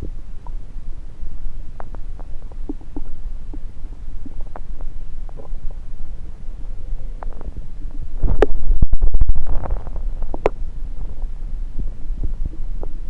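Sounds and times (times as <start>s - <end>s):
stomach gurgling: 0.0s - 13.0s
stomach rumbling: 0.0s - 13.0s.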